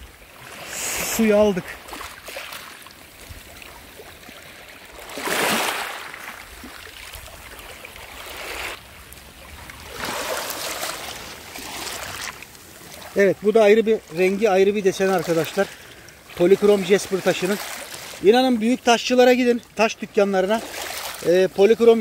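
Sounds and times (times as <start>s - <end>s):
small waves washing over pebbles: 0.0s - 22.0s.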